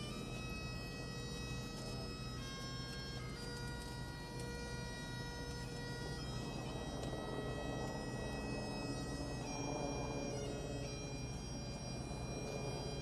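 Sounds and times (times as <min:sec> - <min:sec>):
bagpipes playing slow tune: 0:00.0 - 0:13.0.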